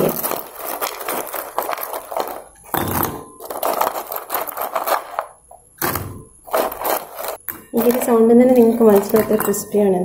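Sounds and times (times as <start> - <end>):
crisp fries clattering into ceramic bowl: 0.0 - 5.3, 6.5 - 9.6.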